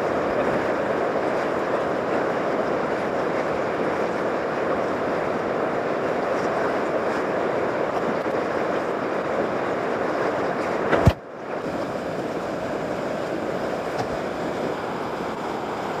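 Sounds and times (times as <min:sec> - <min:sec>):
rushing whitewater: 0:00.0 - 0:16.0.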